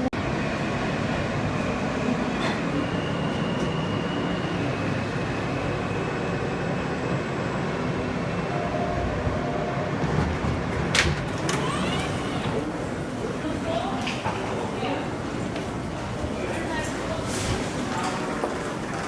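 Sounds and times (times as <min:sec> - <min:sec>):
subway train rumbling: 0:00.0 - 0:19.0.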